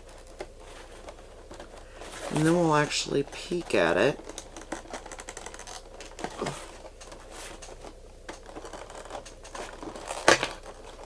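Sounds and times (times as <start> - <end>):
cardboard box rustling: 0.0 - 11.0.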